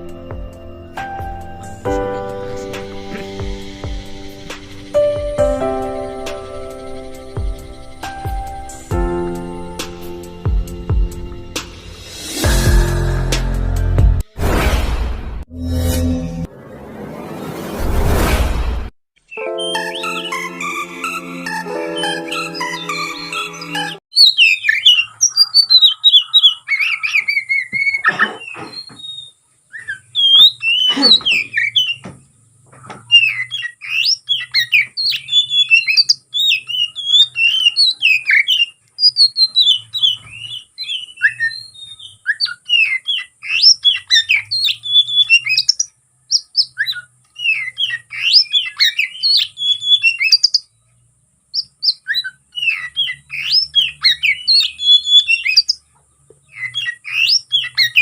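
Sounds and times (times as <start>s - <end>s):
songbird chirping and whistling: 1.0s - 10.5s, 19.3s - 32.1s, 33.0s - 50.7s, 51.5s - 58.0s.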